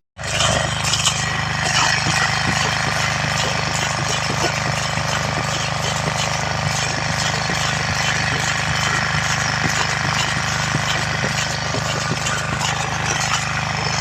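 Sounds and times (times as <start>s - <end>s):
engine chugging: 0.2s - 14.0s.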